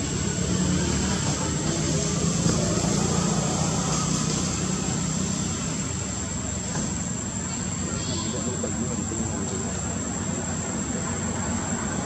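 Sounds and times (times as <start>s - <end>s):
low drone of motor traffic: 0.0s - 12.0s.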